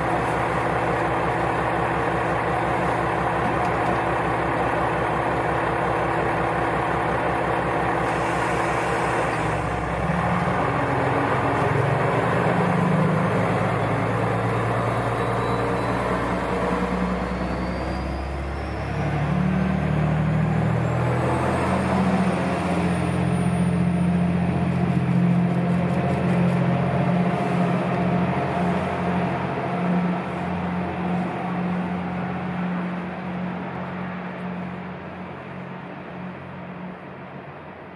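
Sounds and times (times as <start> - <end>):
diesel railcar engine: 0.0 - 37.9.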